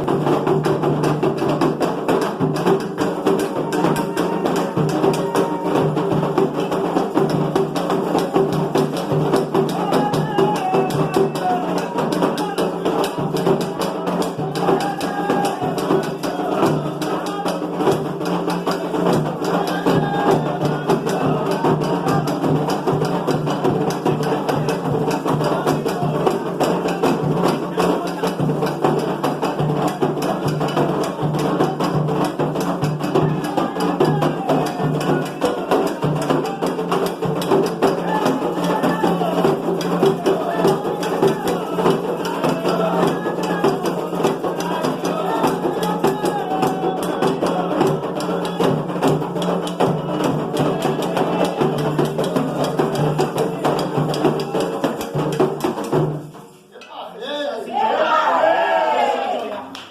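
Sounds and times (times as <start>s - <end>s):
music with fast percussion: 0.0s - 56.7s.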